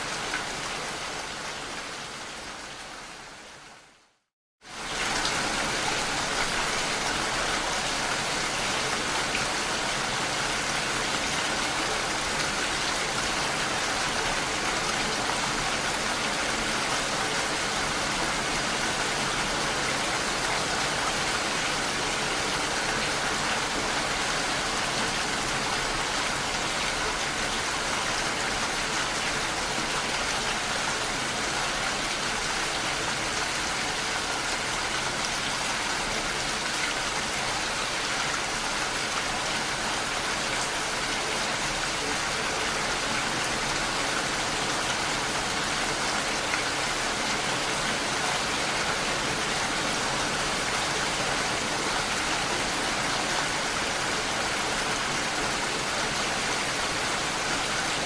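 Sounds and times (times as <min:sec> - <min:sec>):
heavy rain falling: 0:00.0 - 0:03.6, 0:04.6 - 0:58.0.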